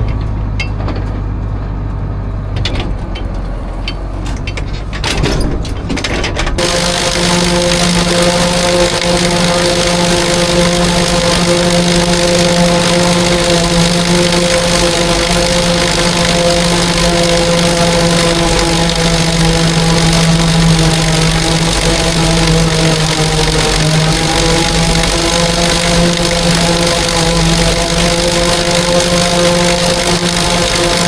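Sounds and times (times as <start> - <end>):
farm machinery engine drone: 0.0 - 31.0
mechanical whir: 2.1 - 31.0.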